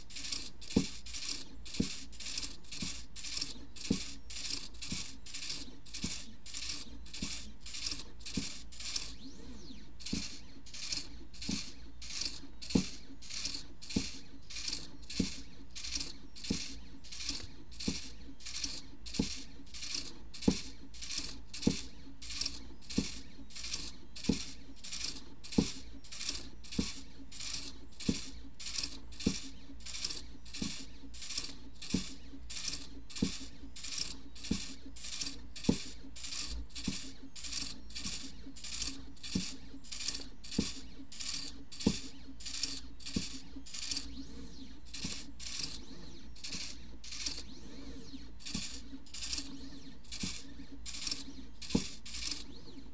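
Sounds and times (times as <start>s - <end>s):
pen plotter scratching strokes: 0.0s - 52.8s.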